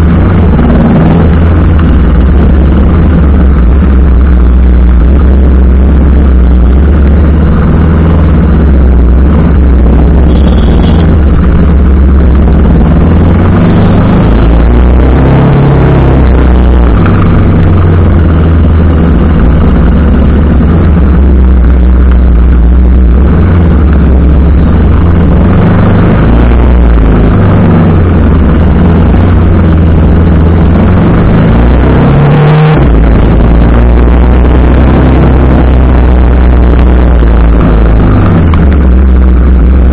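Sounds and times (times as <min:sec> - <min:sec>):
motorcycle engine revving: 0:00.0 - 0:39.9
wind rumbling on microphone: 0:00.0 - 0:39.9.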